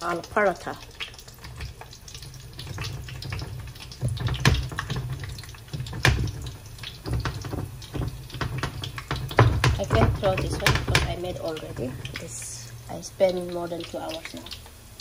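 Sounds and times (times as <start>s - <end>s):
dough sizzling in oil: 0.0s - 15.0s
oil clicks and crackles: 0.0s - 15.0s.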